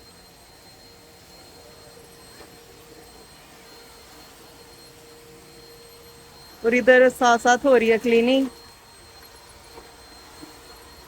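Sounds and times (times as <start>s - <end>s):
thin steady tone: 0.0s - 11.0s.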